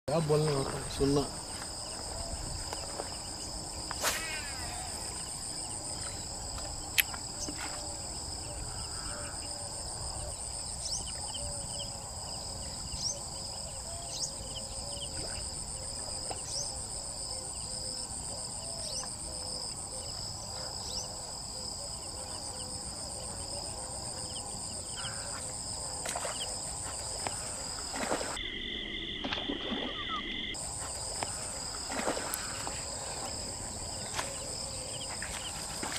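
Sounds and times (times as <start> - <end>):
insects calling high-pitched: 0.2 - 35.9
short repeated insect calls: 0.8 - 35.9.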